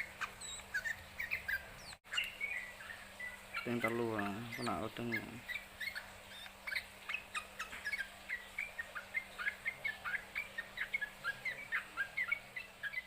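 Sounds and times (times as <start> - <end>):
bird rapid chirping: 0.0 - 13.0.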